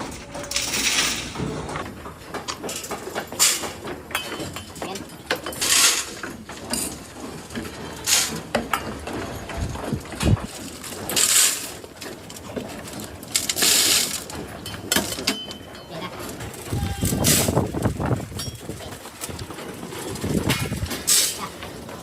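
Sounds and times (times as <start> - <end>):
goat hooves knocking and clattering: 0.0 - 22.0.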